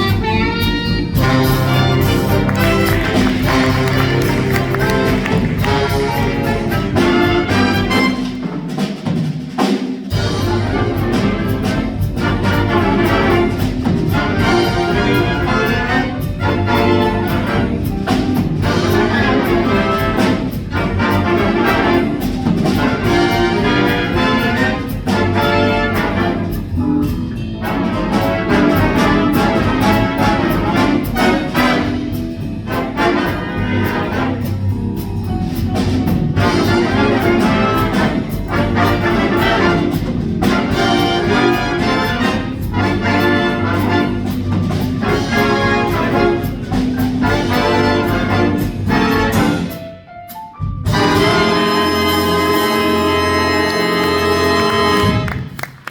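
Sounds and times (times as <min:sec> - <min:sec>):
brass section playing: 0:00.0 - 0:09.0, 0:10.1 - 0:55.9
big band jazz: 0:00.0 - 0:55.9.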